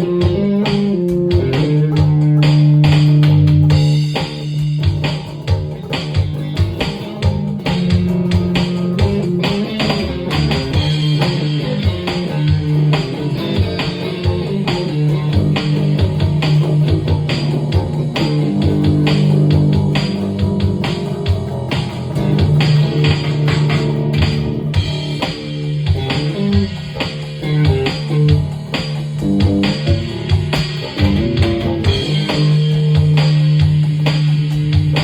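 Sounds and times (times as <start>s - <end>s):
bass guitar playing: 0.0s - 35.0s
drum hits: 0.0s - 35.0s
guitar playing: 0.0s - 35.0s.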